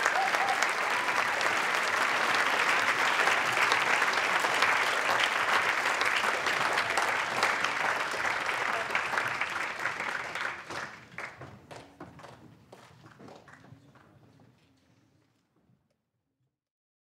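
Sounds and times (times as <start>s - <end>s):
crowd applause: 0.0s - 14.0s.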